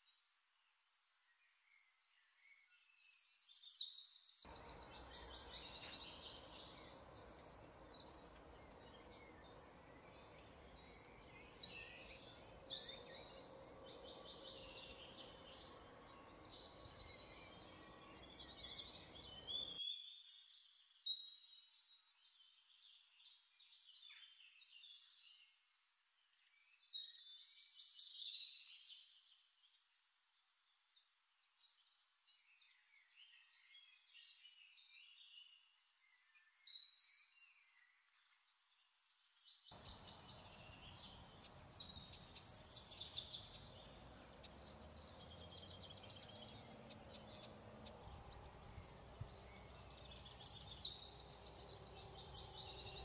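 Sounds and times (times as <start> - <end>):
faint background noise: 0.0 - 53.0
songbirds chirping and singing: 1.3 - 53.0.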